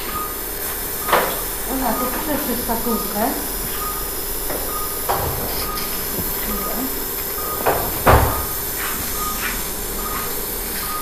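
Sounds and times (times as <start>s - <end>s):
monitor pulse beep: 0.0s - 11.0s
suction hiss: 0.0s - 11.0s.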